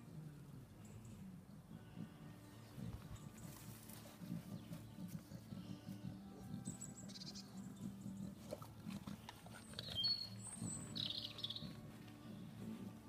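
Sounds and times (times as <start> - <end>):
small birds chirping: 0.8 - 13.0.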